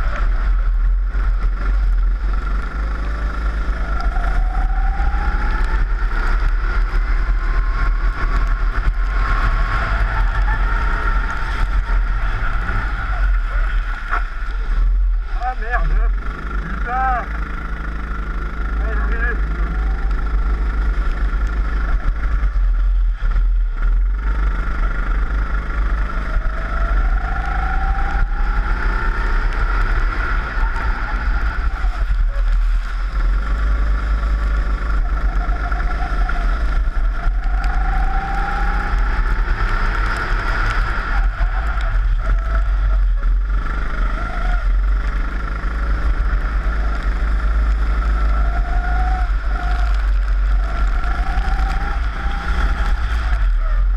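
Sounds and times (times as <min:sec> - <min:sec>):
kart engine revving: 0:00.0 - 0:53.9
low rumble of vibration and wind: 0:00.0 - 0:53.9.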